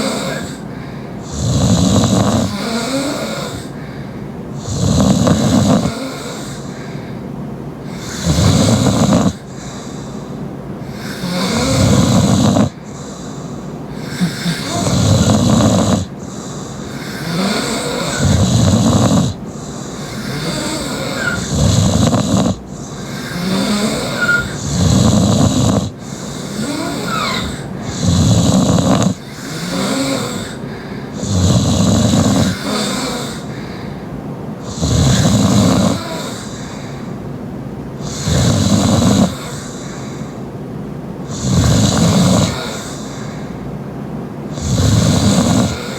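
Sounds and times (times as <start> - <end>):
person snoring loudly: 0.0 - 4.0, 4.6 - 7.0, 7.8 - 34.0, 34.6 - 37.0, 38.0 - 40.2, 41.2 - 43.5, 44.5 - 45.9
quiet breathing: 0.0 - 45.9.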